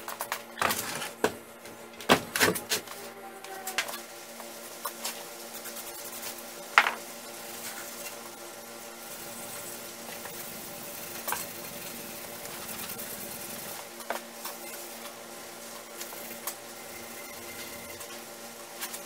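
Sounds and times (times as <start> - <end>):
steady hiss: 3.0 - 19.0.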